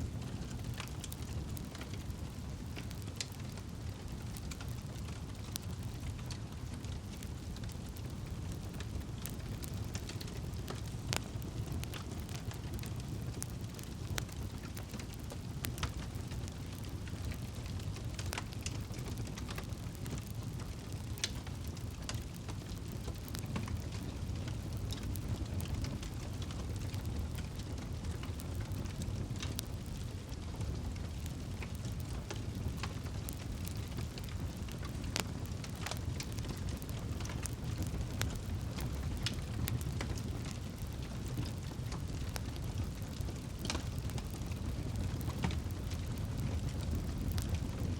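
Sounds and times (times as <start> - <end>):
campfire crackles and pops: 0.0 - 47.9
low rumble of flames: 0.0 - 47.9.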